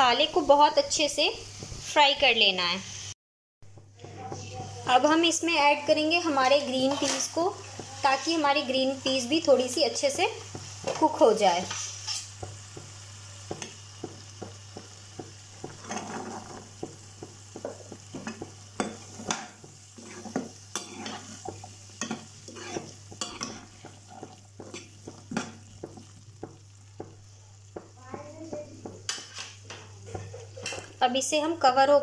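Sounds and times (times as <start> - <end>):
food sizzling: 0.0 - 3.2, 3.8 - 32.0
spatula scraping and tapping pan: 3.8 - 31.0.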